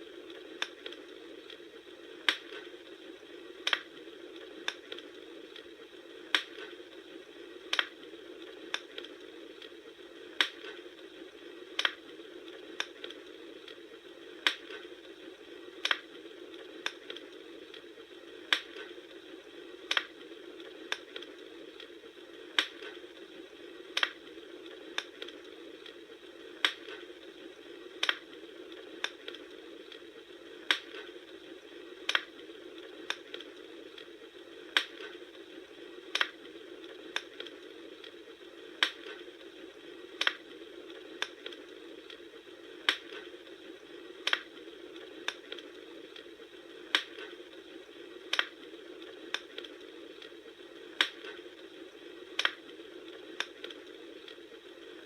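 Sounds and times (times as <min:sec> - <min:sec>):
hiss of burning: 0:00.0 - 0:55.0
wood fire crackling and popping: 0:00.0 - 0:55.0.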